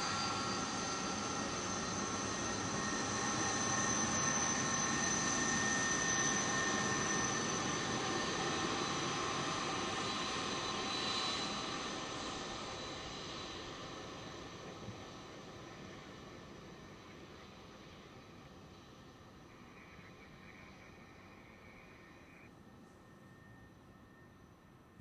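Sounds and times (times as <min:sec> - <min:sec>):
jet engines roaring and whining: 0:00.0 - 0:24.6.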